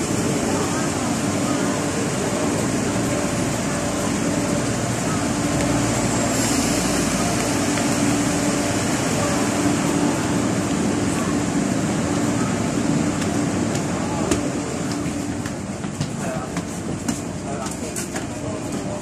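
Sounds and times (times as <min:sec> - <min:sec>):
electric train hum and hiss: 0:00.0 - 0:19.0
passengers' voices: 0:00.0 - 0:19.0.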